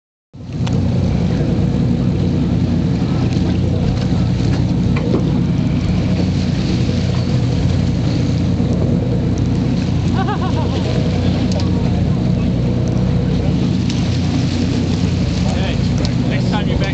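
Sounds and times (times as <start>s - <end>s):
boat engine running: 0.3s - 16.9s
wind: 0.3s - 16.9s
water noise: 0.4s - 16.9s.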